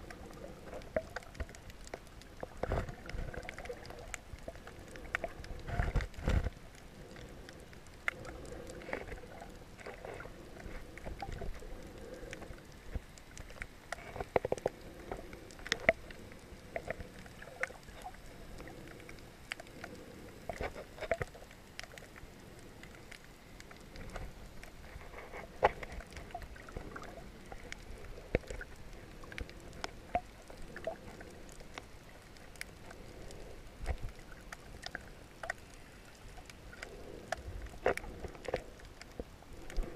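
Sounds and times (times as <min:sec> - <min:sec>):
muffled underwater sloshing: 0:00.0 - 0:39.9
sharp clicks and crackles: 0:00.0 - 0:39.9.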